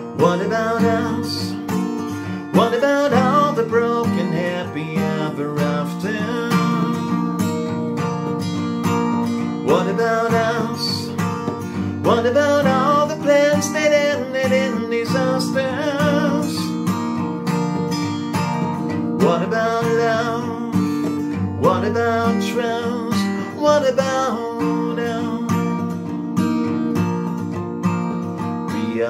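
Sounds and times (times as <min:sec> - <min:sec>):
man singing: 0:00.0 - 0:07.5, 0:08.9 - 0:26.1, 0:28.4 - 0:29.0
acoustic guitar strumming: 0:00.0 - 0:29.0.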